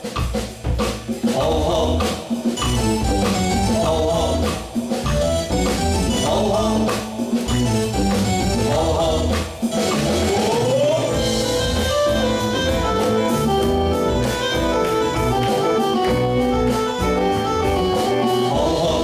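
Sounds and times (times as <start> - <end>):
drums: 0.0 - 19.0
bass guitar: 0.7 - 19.0
electric guitar: 1.1 - 19.0
keyboard notes: 2.6 - 19.0.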